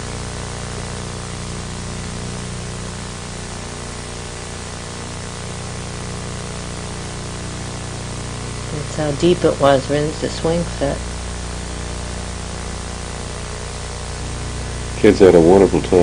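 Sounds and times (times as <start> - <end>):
low electrical hum: 0.0 - 16.0
steady hiss: 0.0 - 16.0.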